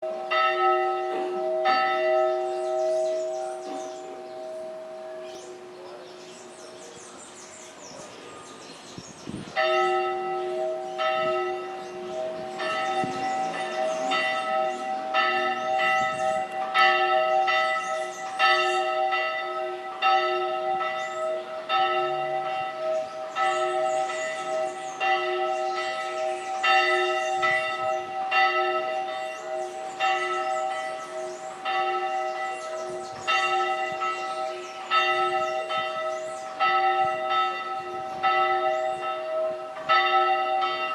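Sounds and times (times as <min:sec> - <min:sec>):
church bells ringing: 0:00.0 - 0:08.8, 0:09.5 - 0:40.9.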